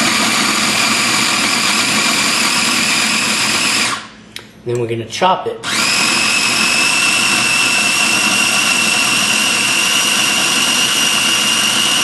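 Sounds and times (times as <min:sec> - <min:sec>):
food processor motor whining: 0:00.0 - 0:04.1, 0:05.6 - 0:12.0.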